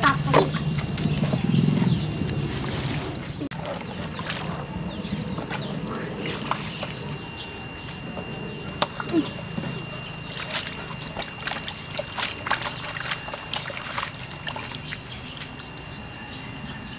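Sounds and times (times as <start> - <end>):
eels and water sloshing in jerrycan: 0.0 - 16.0
low drone: 0.0 - 16.9.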